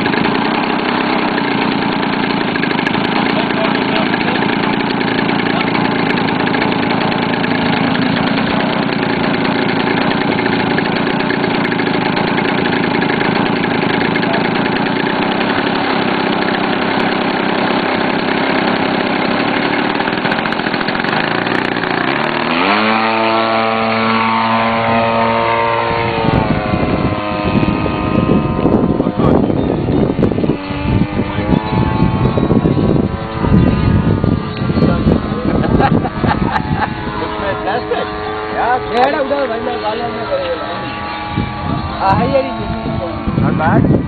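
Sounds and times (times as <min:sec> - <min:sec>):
model plane engine: 0:00.0 - 0:44.0.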